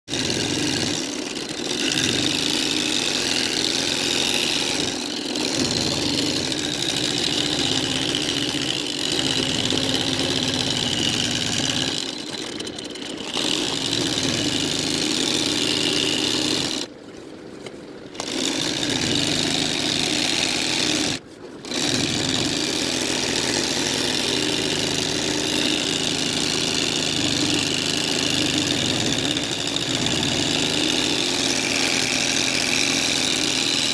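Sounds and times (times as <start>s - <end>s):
embroidery machine stitching: 0.1s - 16.9s, 18.1s - 33.9s.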